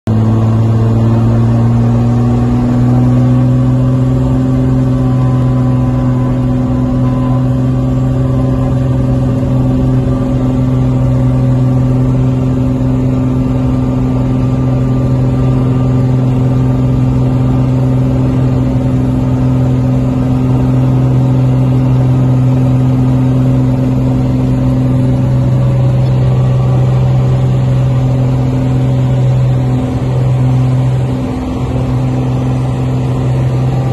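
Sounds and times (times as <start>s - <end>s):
aircraft engine and propeller running: 0.1s - 33.9s.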